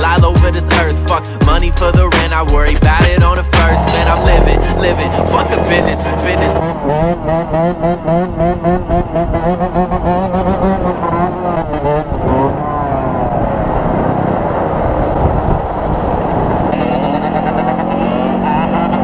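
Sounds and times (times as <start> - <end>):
road noise: 0.8 - 19.0
dirt bike engine: 2.3 - 19.0.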